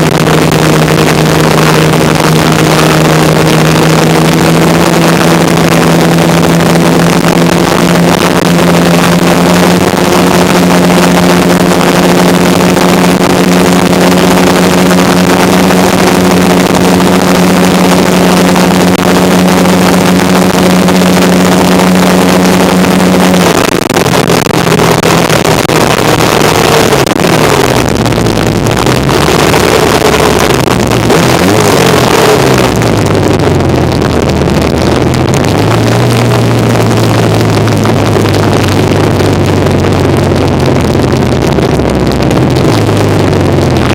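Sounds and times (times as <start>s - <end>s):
motorcycle engine running: 0.0s - 43.9s
wind rushing over microphone: 0.0s - 43.9s.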